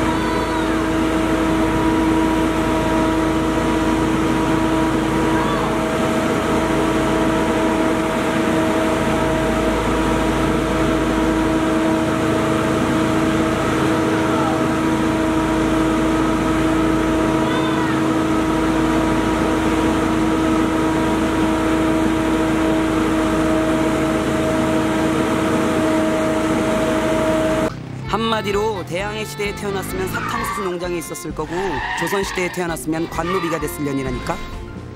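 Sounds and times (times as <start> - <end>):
machinery hum: 0.0 - 34.9.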